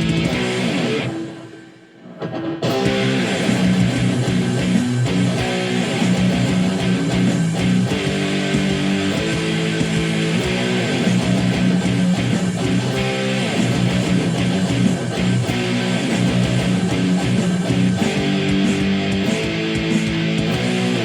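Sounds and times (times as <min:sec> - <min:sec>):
strummed guitar chords: 0:00.0 - 0:21.0.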